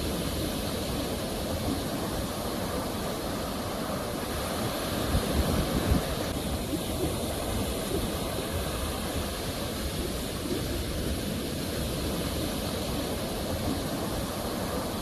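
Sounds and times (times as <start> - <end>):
ocean waves rushing: 0.0 - 15.0.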